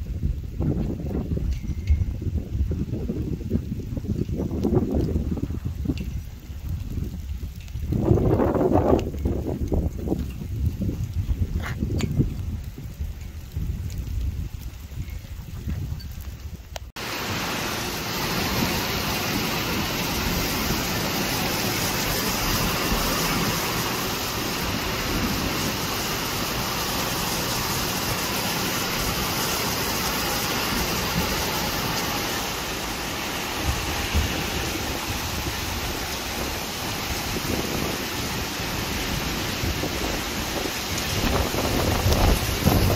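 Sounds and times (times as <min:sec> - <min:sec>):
rain pouring: 0:00.0 - 0:42.9
wind rumbling on microphone: 0:00.0 - 0:42.9.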